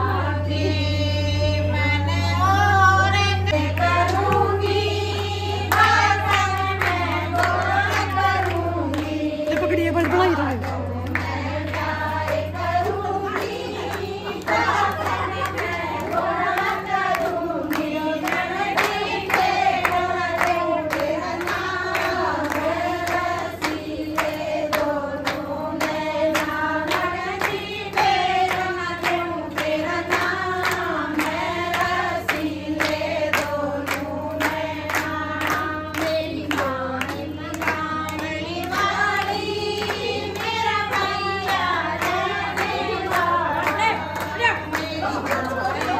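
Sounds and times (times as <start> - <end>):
rhythmic hand-clapping: 0.0 - 45.9
women singing folk song in chorus: 0.0 - 45.9.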